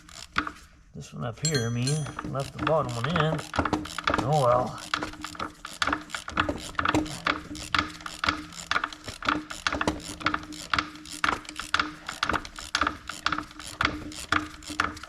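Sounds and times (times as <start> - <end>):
hand ratchet clicking: 1.5 - 15.0.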